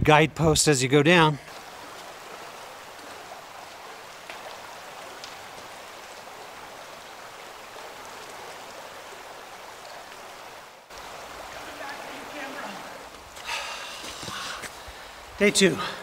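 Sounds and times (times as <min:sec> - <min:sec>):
river water rushing: 0:01.4 - 0:16.0.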